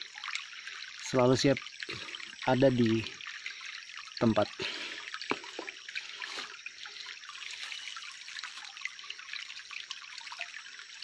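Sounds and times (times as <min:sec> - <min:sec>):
stream trickling: 0:00.0 - 0:11.0
water drips and splashes: 0:00.0 - 0:11.0.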